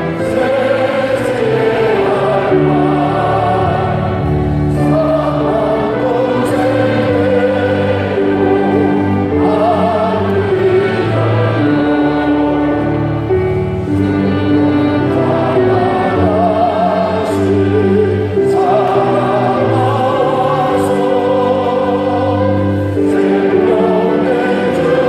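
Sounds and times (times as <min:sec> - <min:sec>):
congregation singing a hymn: 0:00.0 - 0:25.0.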